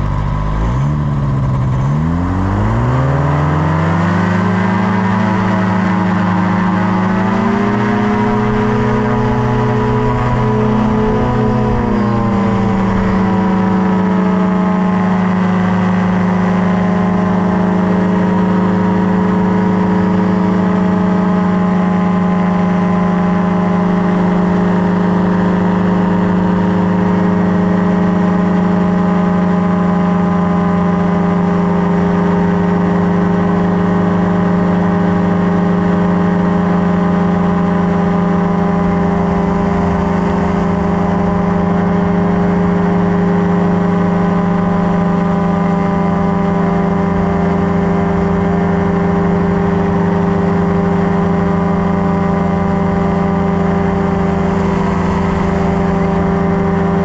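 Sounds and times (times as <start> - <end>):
paramotor engine droning: 0.0 - 57.0.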